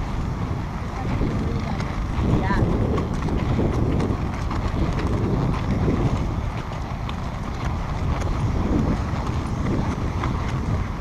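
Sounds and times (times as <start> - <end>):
horse hooves clip-clopping: 0.0 - 11.0
wind noise on microphone: 0.0 - 11.0.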